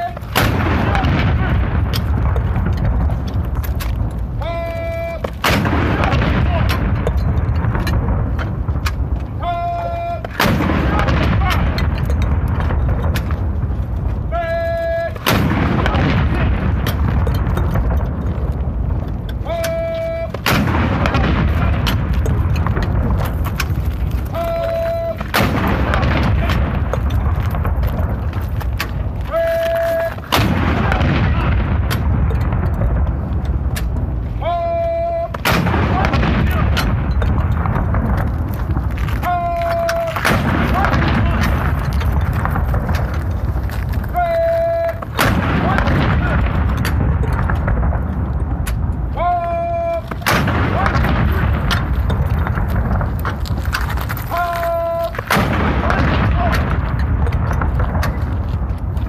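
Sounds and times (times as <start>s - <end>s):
cannon shots: 0.0s - 59.0s.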